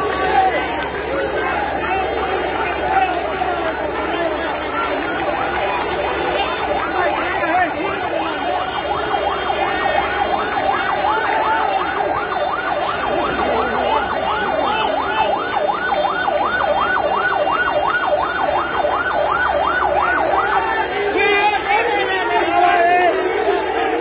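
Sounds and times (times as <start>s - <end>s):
crowd noise: 0.0s - 24.0s
siren yelping: 1.6s - 24.0s.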